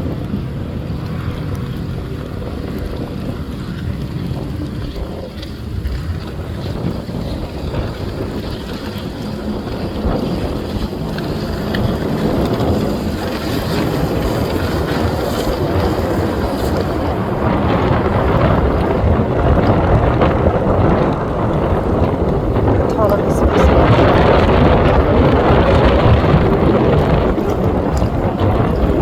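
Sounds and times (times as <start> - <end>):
motorboat engine: 0.0 - 29.0
wind buffeting microphone: 0.0 - 29.0.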